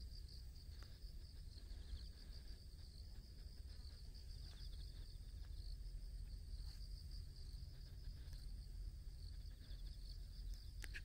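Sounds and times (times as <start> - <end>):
faint low rumble: 0.0 - 11.0
insects trilling: 0.0 - 11.0.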